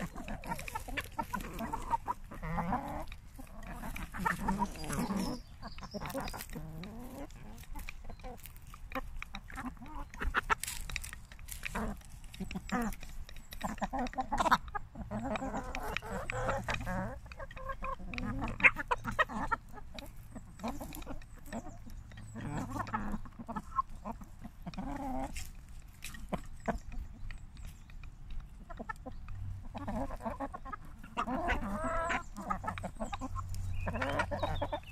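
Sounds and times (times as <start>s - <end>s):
beaks pecking at a bowl: 0.0s - 34.9s
hens clucking: 0.0s - 34.9s.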